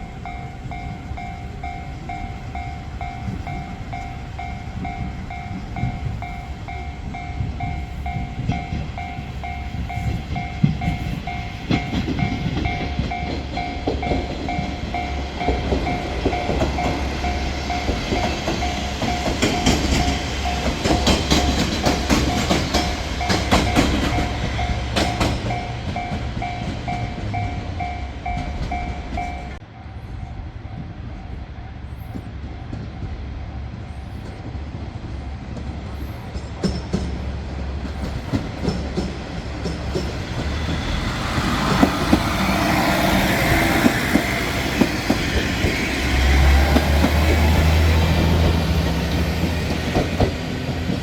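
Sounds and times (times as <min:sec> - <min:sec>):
train wheels clacking on rails: 0:00.0 - 0:30.0, 0:31.9 - 0:51.0
train rumbling past: 0:00.0 - 0:51.0.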